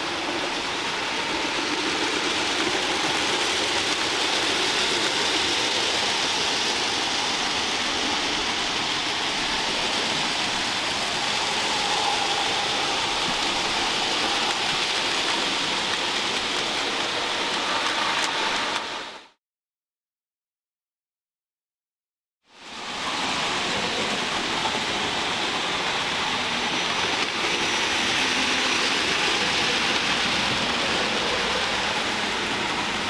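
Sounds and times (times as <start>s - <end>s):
model train wheels and motors: 0.0s - 19.4s, 22.5s - 33.0s.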